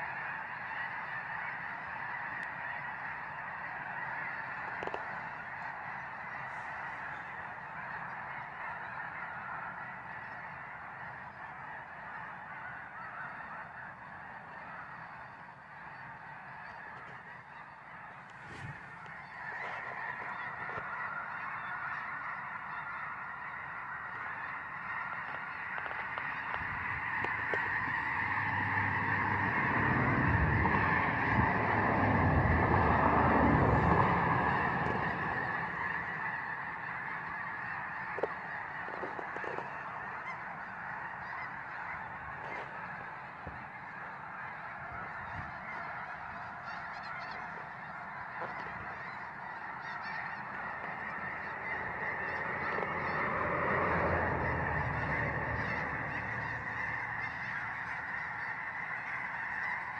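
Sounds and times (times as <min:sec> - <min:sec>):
snow geese honking: 0:00.0 - 0:59.9.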